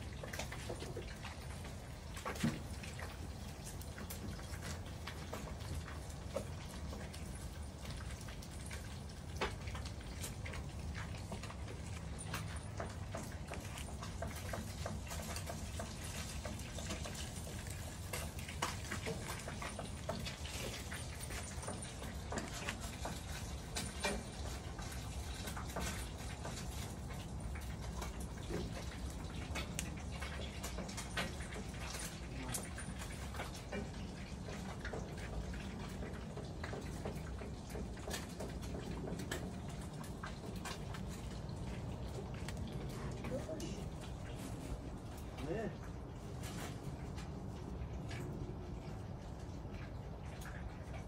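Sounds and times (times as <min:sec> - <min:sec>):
water dripping on paving: 0:00.0 - 0:51.0.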